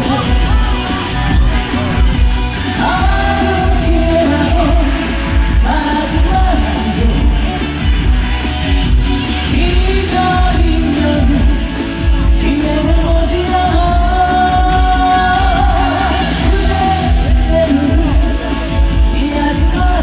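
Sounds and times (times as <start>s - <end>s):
person singing with vibrato: 0.0s - 8.6s, 9.2s - 20.0s
amplified band playing: 0.0s - 20.0s.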